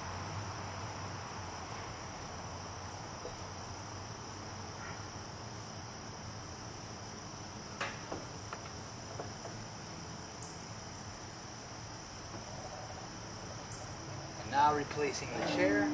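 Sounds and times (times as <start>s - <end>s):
crickets chirring: 0.0s - 15.9s.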